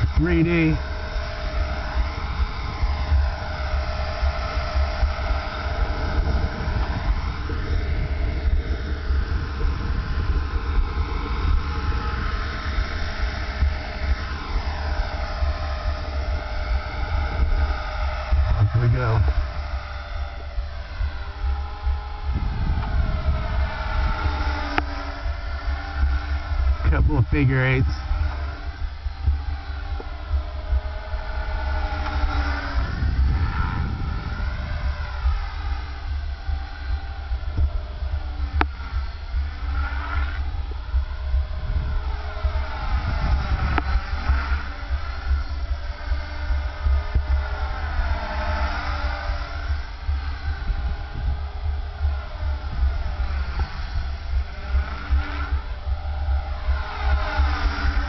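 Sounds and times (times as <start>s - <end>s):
low rumble: 0.0s - 58.0s
rc helicopter motor whine: 0.0s - 58.0s.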